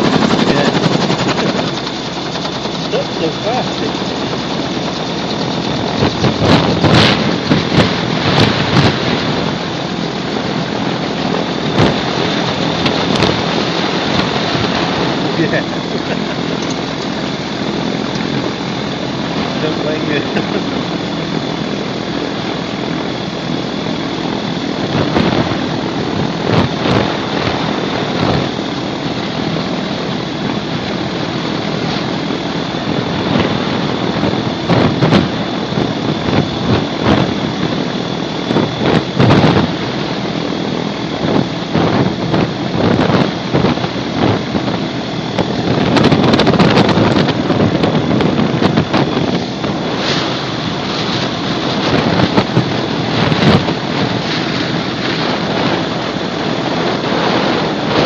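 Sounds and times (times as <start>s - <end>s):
gyrocopter engine and propeller: 0.0s - 58.0s
thin steady whine: 0.0s - 58.0s
wind buffeting microphone: 0.0s - 58.0s.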